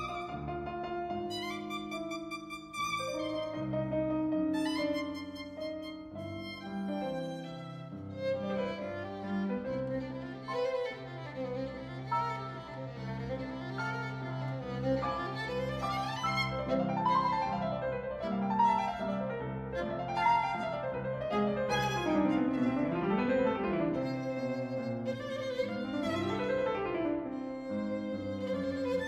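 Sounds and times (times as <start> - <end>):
cello line: 0.0 - 29.0
piano: 0.0 - 29.0
violin melody: 0.0 - 29.0.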